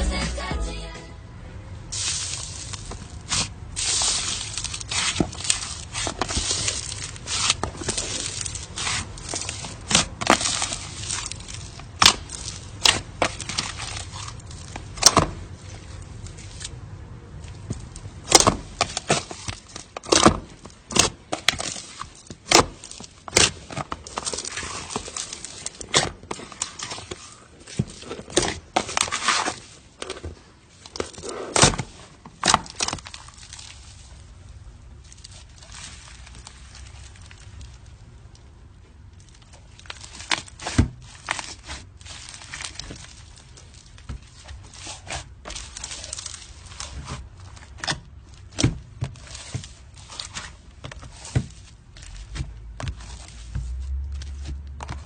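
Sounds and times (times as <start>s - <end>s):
slime popping and crackling: 1.9s - 16.7s, 17.3s - 29.6s, 30.8s - 55.0s.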